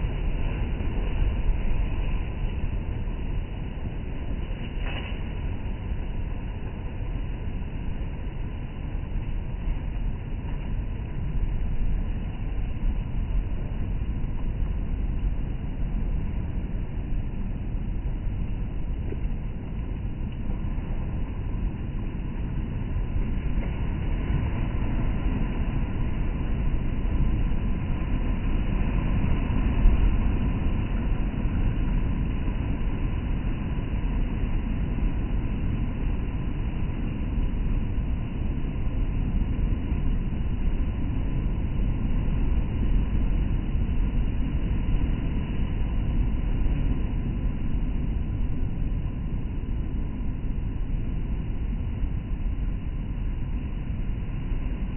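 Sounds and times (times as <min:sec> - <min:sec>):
surf rumbling on shore: 0:00.0 - 0:54.9.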